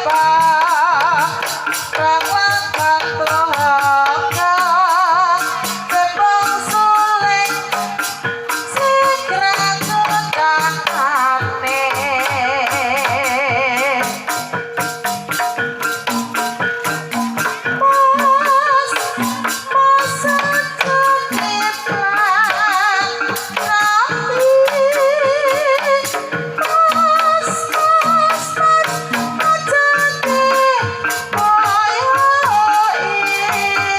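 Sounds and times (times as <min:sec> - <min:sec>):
woman singing with wide vibrato: 0:00.0 - 0:14.8, 0:15.8 - 0:33.9
drum and rattle strikes: 0:00.0 - 0:33.9
tuned percussion ensemble: 0:00.0 - 0:33.9.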